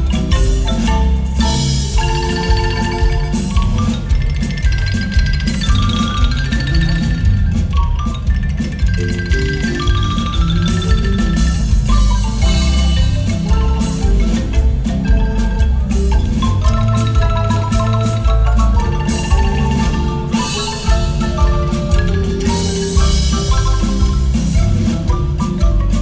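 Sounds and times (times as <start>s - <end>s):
low bass notes: 0.0s - 26.0s
marimba melody: 0.0s - 26.0s.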